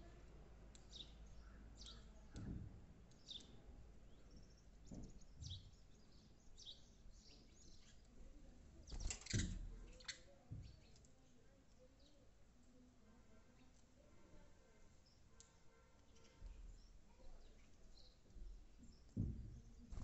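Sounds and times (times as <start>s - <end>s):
sparrows chirping: 0.0s - 12.4s, 13.2s - 20.0s.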